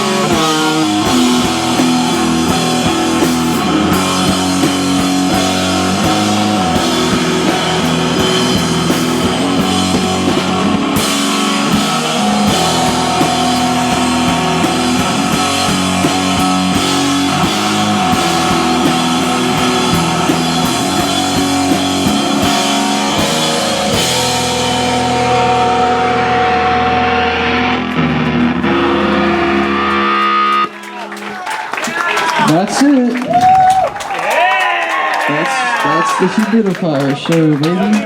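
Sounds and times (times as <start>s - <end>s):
rock band playing loudly: 0.0s - 38.0s.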